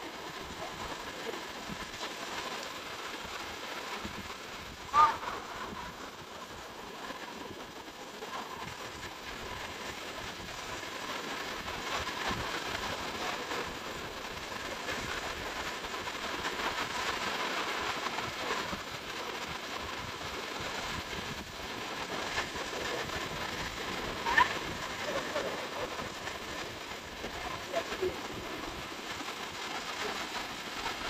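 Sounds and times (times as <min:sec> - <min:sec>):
small waves breaking on sand: 0:00.0 - 0:31.0
wind: 0:00.0 - 0:31.0.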